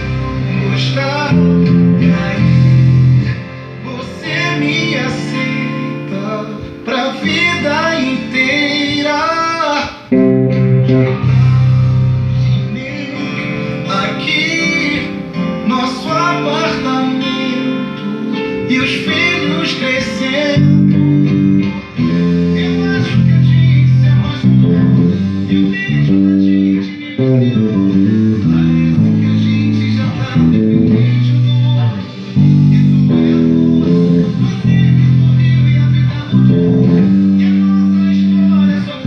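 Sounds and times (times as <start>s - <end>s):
bass guitar playing low notes: 0.0s - 9.1s, 10.1s - 39.0s
recorded pagode song: 0.0s - 39.0s.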